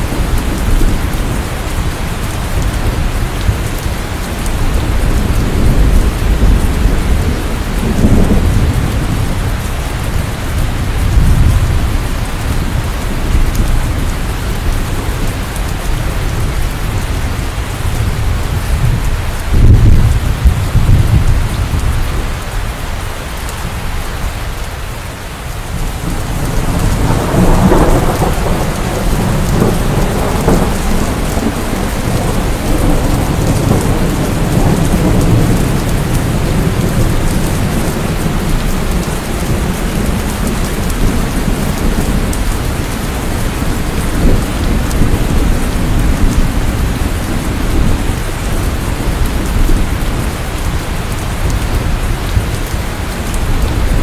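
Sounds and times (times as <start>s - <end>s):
thunder rumbling: 0.0s - 22.7s, 25.4s - 54.0s
heavy rain: 0.0s - 54.0s.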